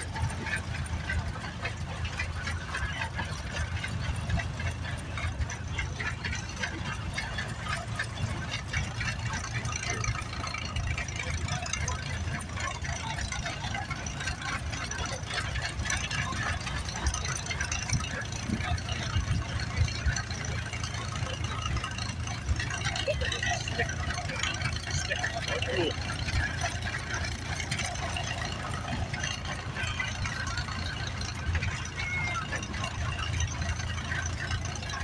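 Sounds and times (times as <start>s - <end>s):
tractor engines running: 0.0s - 35.0s
wind rumbling on microphone: 0.0s - 35.0s.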